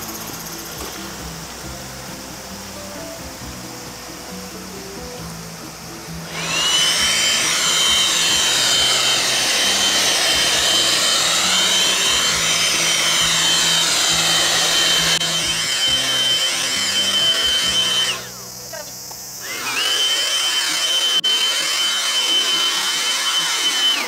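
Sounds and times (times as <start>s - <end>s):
leaf blower whining: 0.0s - 24.0s.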